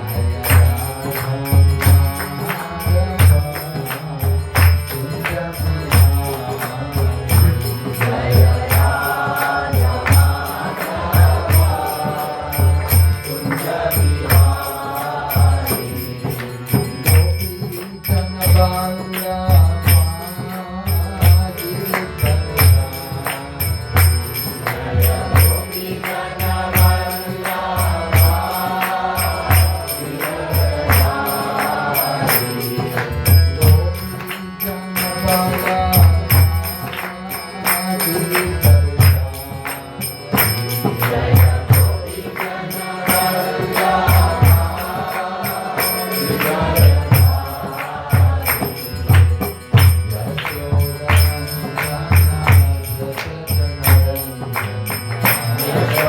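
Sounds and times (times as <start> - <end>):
hand cymbals striking: 0.0 - 56.0
melodic chant: 0.0 - 56.0.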